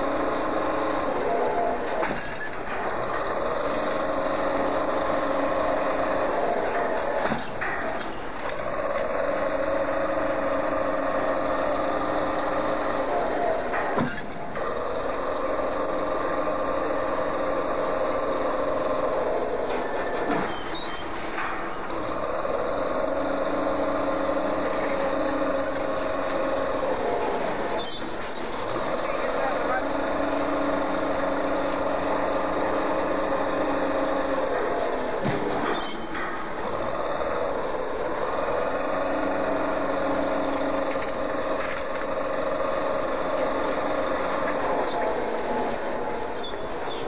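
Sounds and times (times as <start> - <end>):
large engine droning: 0.0 - 47.0.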